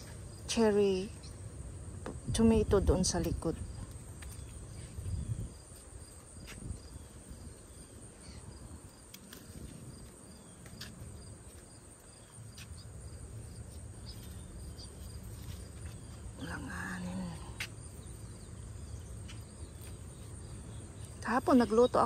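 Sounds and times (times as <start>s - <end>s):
insect chirring: 0.0s - 22.0s
rustling of leaves: 3.0s - 22.0s.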